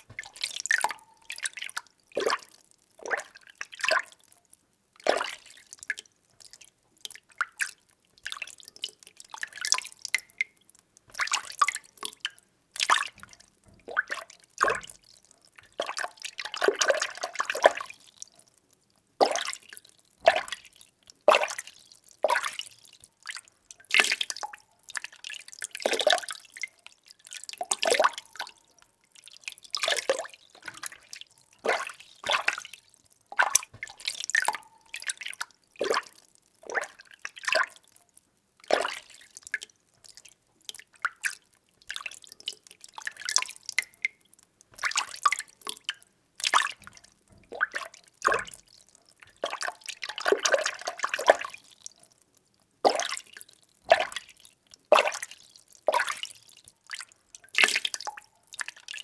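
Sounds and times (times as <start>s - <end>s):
water stirred and sloshing: 0.0s - 4.3s, 5.0s - 18.2s, 19.2s - 37.9s, 38.6s - 52.1s.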